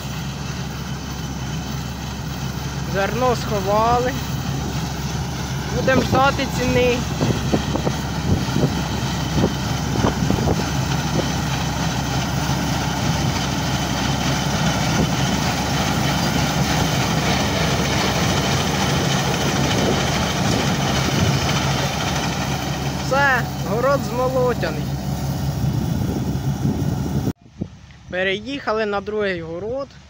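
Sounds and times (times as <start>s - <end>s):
combine harvester droning: 0.0s - 28.0s.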